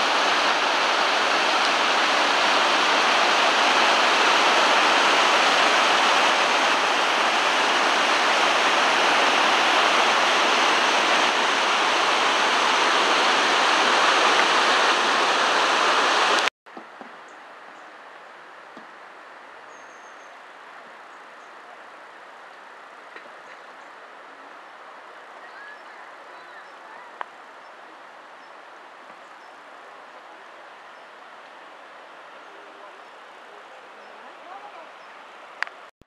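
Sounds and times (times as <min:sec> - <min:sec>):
waterfall rushing over boulders: 0:00.0 - 0:16.5, 0:20.3 - 0:35.9.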